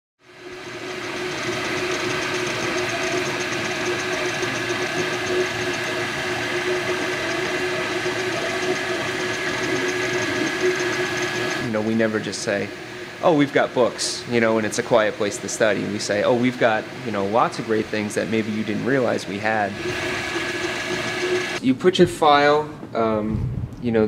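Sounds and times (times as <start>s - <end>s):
printer head buzzing: 0.2s - 13.7s, 14.3s - 21.6s
steady whine: 0.2s - 21.6s.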